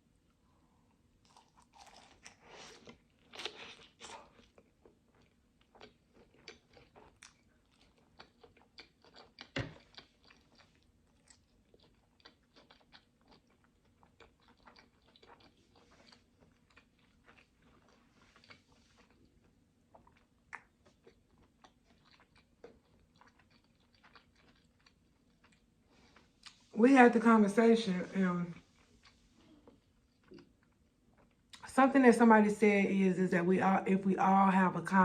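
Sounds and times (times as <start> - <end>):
person chewing food: 0.9 - 26.7, 28.6 - 31.6.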